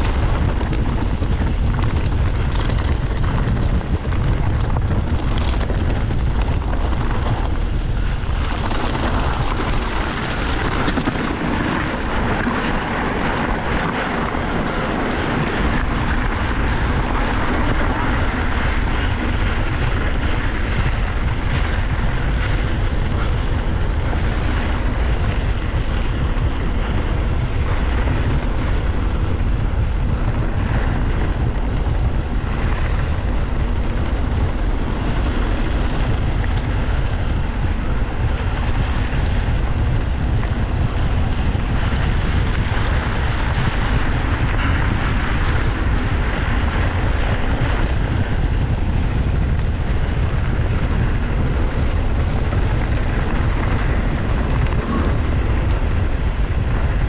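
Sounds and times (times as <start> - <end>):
bike rumbling over ground: 0.0 - 57.0
wind rushing over microphone: 0.0 - 57.0.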